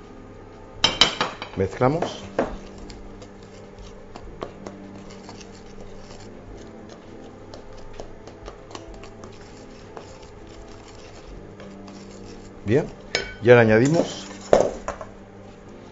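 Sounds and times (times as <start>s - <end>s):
steady low hum: 0.0s - 15.9s
spatula scraping in glass bowl: 1.9s - 14.9s.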